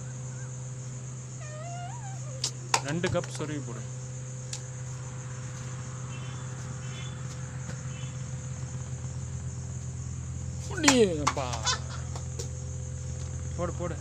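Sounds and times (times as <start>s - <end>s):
insects chirring: 0.0s - 14.0s
low steady hum: 0.0s - 14.0s.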